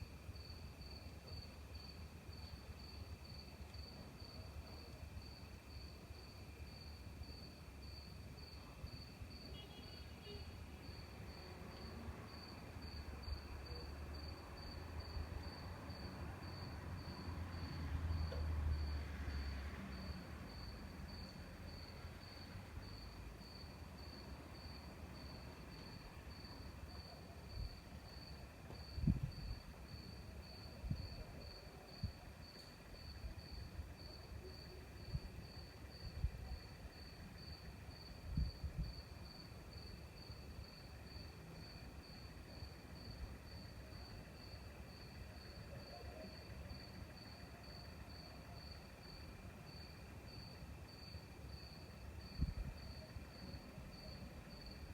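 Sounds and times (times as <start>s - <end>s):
faint insect hum: 0.0s - 54.9s
cricket chirping: 0.1s - 54.9s.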